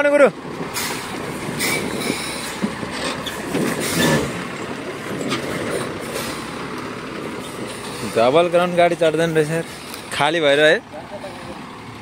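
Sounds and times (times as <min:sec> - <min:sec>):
truck diesel engine under load: 0:00.0 - 0:12.0
truck body creaks and rattles: 0:00.4 - 0:10.4.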